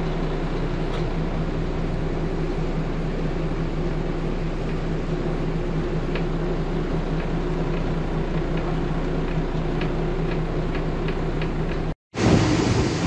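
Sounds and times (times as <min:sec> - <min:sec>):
boat engines humming: 0:00.0 - 0:13.0.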